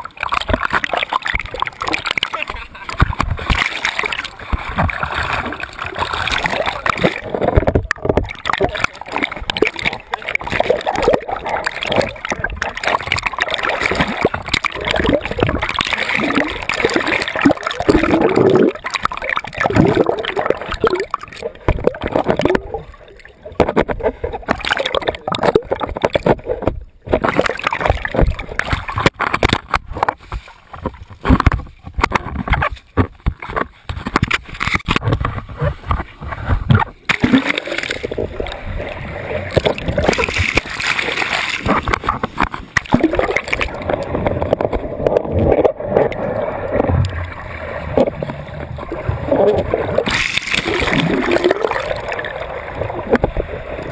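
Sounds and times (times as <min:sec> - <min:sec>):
water churning and splashing: 0:00.0 - 0:53.9.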